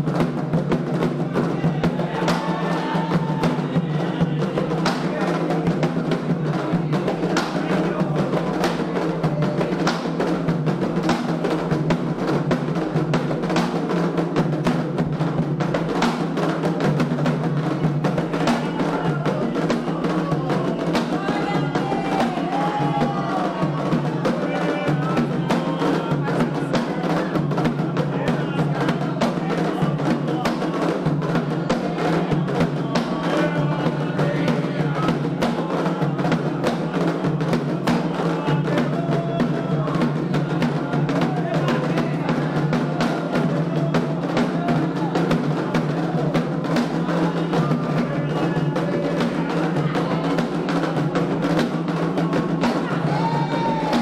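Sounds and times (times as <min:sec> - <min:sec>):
hand drums drumming: 0:00.0 - 0:54.0
voices singing: 0:00.0 - 0:54.0.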